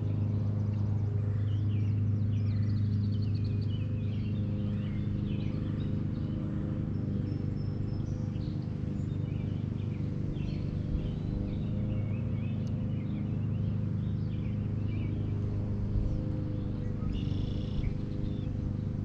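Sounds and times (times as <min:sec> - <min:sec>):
low motor hum: 0:00.0 - 0:19.0
small birds chirping: 0:00.0 - 0:19.0.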